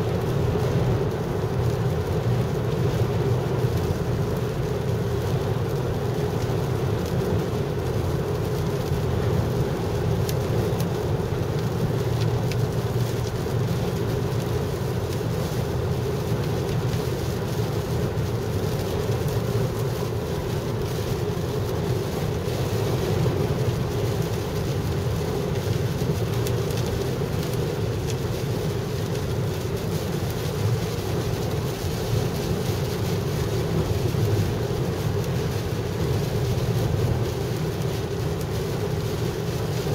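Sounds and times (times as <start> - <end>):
car road and engine noise: 0.0 - 39.9
heavy rain on windshield: 0.0 - 39.9.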